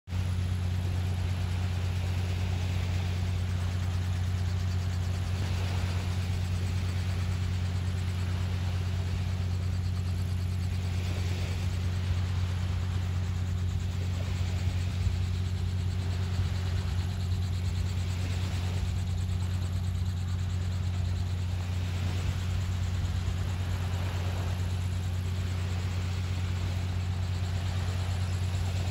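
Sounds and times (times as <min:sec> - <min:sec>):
engine idling: 0:00.1 - 0:28.9.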